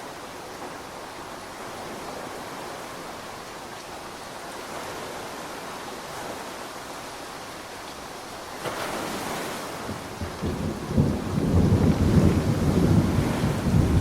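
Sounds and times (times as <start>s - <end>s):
steady rainfall: 0.0s - 14.0s.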